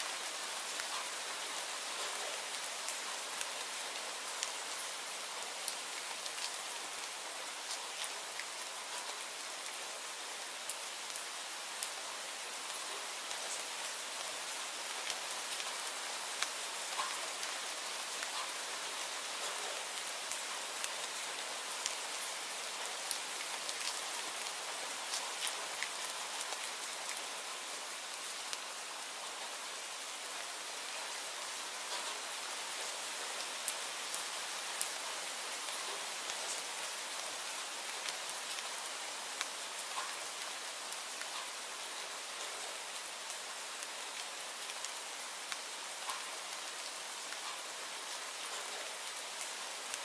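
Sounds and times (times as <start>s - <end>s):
raindrops ticking on a surface: 0.0s - 50.0s
steady rain hiss: 0.0s - 50.0s.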